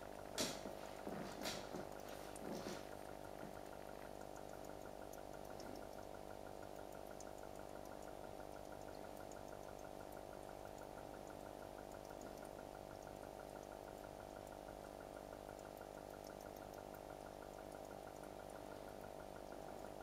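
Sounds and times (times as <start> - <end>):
faint regular pulsing: 0.0 - 20.0
steady electrical hum: 0.0 - 20.0.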